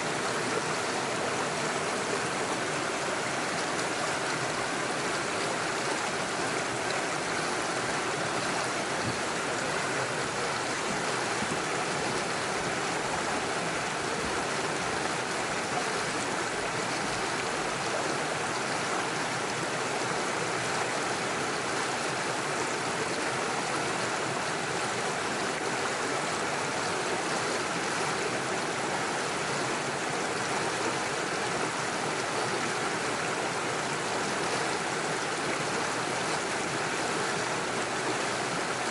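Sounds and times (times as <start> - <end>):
water rushing over stones: 0.0 - 38.9.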